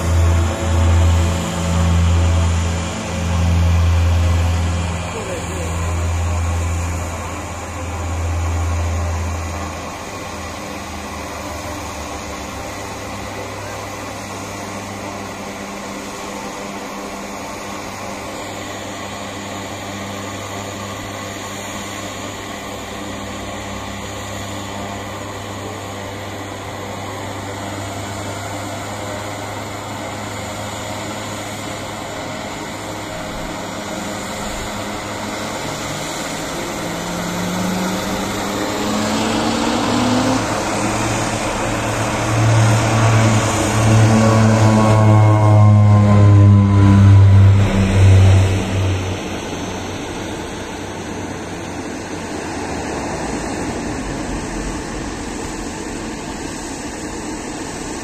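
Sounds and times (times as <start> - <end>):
turboprop engines humming and whining: 0.0 - 58.0.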